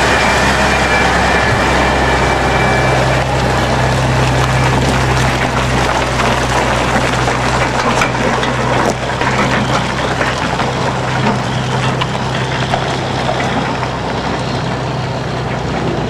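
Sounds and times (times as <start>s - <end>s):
diesel truck engine drone: 0.0s - 16.0s
tyres rumbling on gravel: 0.0s - 16.0s.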